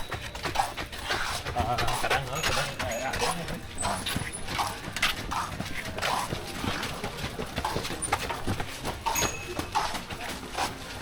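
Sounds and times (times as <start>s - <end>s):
footsteps walking: 0.0s - 11.0s.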